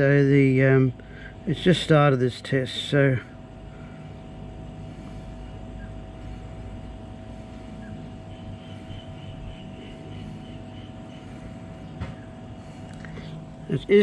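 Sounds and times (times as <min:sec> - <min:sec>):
fridge compressor humming: 0:00.0 - 0:14.0.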